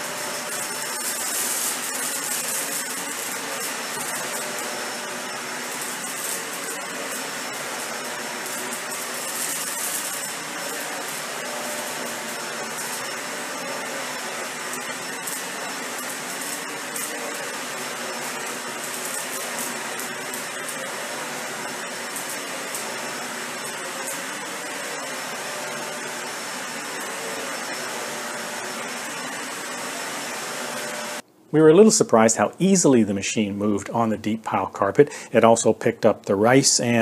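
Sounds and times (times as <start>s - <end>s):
vacuum cleaner on carpet: 0.0s - 31.2s.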